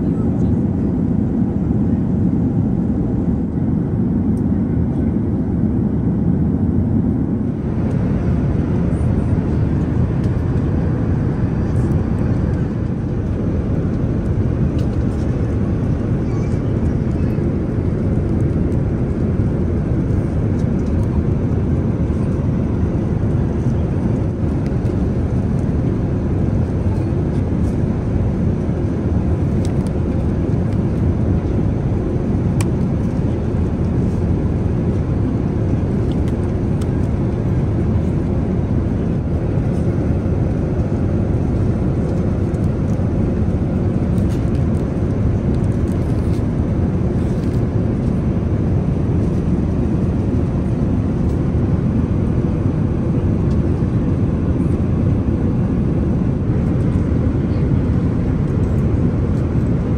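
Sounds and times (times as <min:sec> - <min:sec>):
airliner cabin engine and airflow noise: 0:00.0 - 0:59.9.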